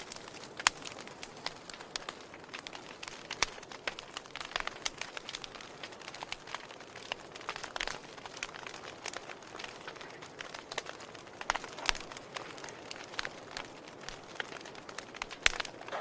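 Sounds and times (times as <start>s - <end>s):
fire crackling: 0.0s - 16.0s
soft fire hiss: 0.0s - 16.0s
wood snapping and popping: 0.0s - 16.0s.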